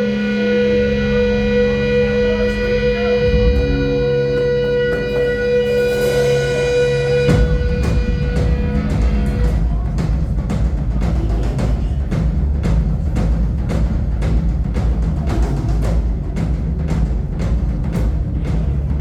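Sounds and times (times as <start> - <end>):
live band music: 0.0 - 18.9.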